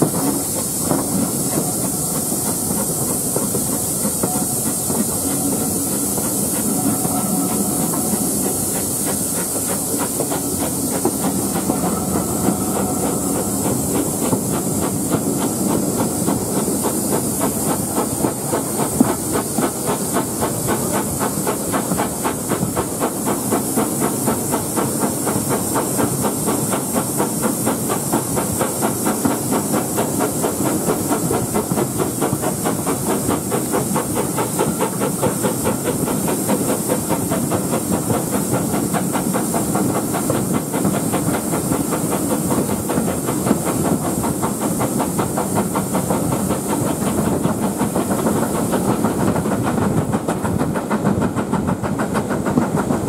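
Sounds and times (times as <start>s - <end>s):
locomotive exhaust chuffs: 0.0s - 53.0s
steam hissing: 0.0s - 53.0s.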